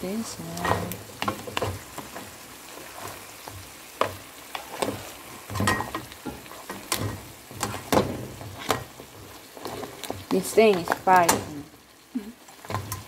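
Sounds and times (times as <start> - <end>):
crab frying sizzle: 0.0 - 13.0
utensils knocking and scraping pan: 0.6 - 11.6.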